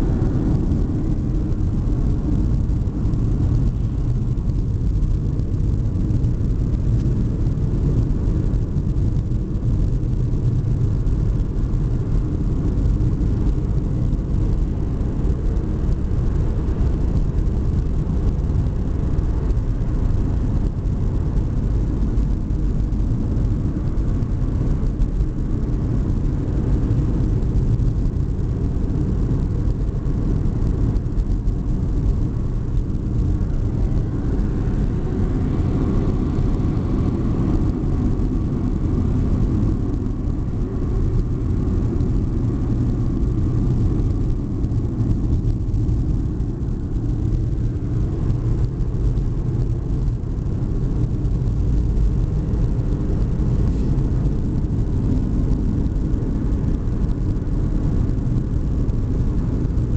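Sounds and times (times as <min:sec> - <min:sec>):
car interior road and engine rumble: 0:00.0 - 0:59.9.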